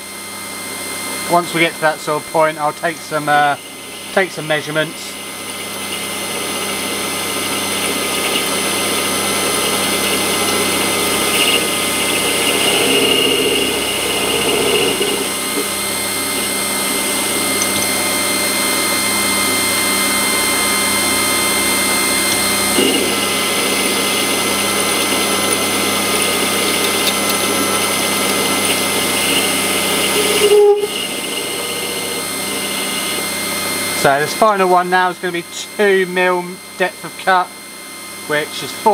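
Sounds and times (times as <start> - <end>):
lathe motor whine: 0.0 - 38.9
lathe tool cutting metal: 0.0 - 38.9.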